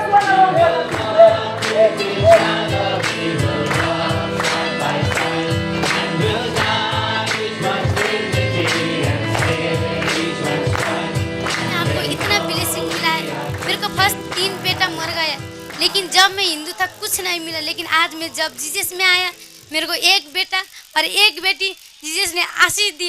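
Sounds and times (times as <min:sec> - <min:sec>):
worship music with singing: 0:00.0 - 0:19.7
steady percussive beat: 0:00.0 - 0:19.8.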